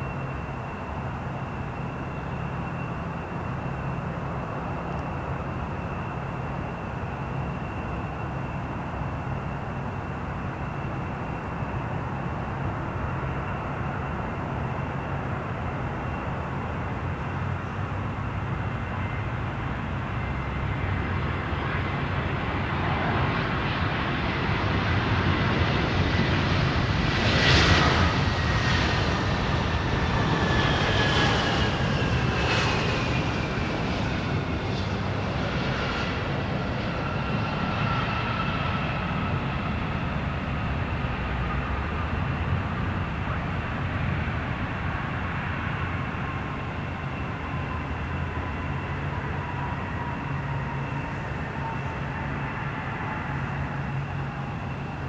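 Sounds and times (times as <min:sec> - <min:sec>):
jet engine rumble and whine: 0:00.0 - 0:55.0.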